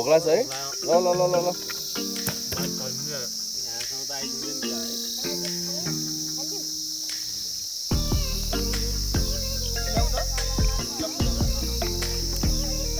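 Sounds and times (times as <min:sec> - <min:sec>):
insect chorus chirring: 0:00.0 - 0:12.9
pitched tones: 0:00.0 - 0:12.9.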